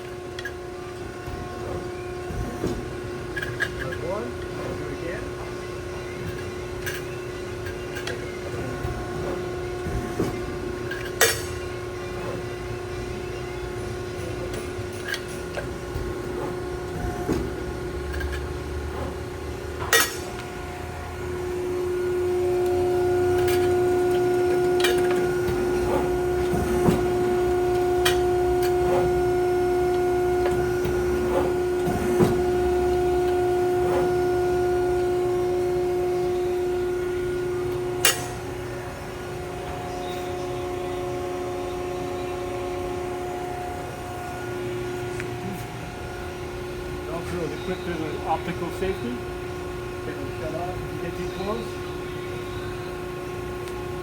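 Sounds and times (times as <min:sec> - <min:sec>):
hydraulic pump humming: 0:00.0 - 0:54.0.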